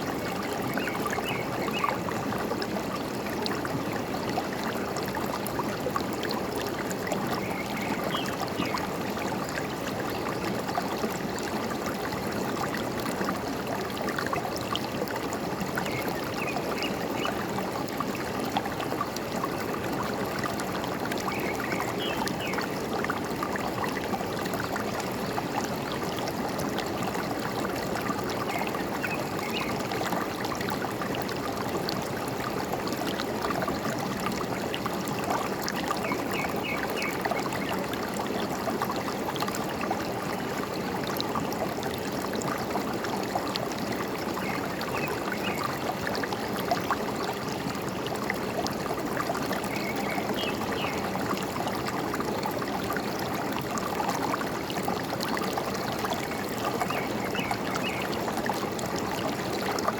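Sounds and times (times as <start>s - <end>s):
forest stream trickling: 0.0s - 59.9s.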